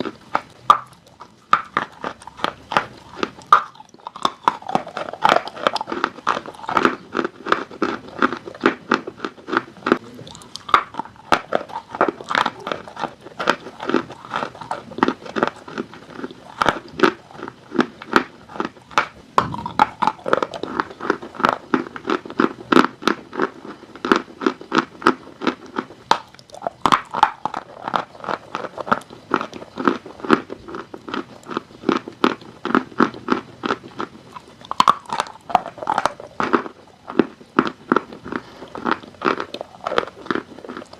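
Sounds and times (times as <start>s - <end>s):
chalk being crunched and chewed: 0.0s - 40.9s.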